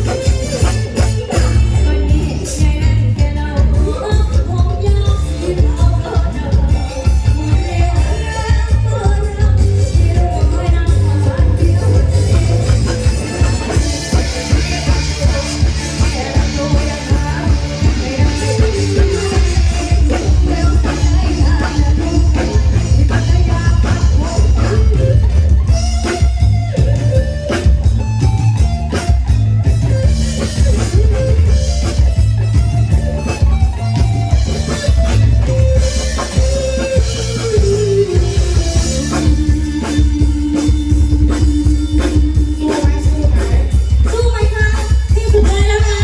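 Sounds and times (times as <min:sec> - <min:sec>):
live band playing: 0:00.0 - 0:46.0.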